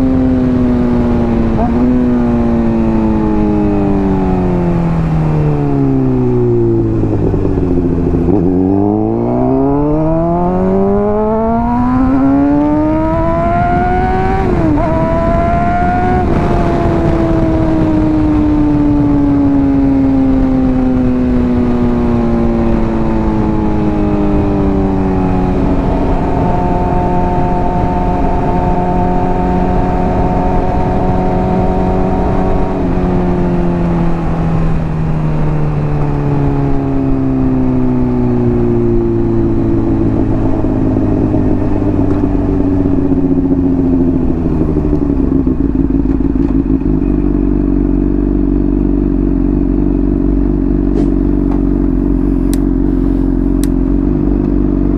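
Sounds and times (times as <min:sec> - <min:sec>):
motorcycle engine slowing: 0:00.0 - 0:54.9.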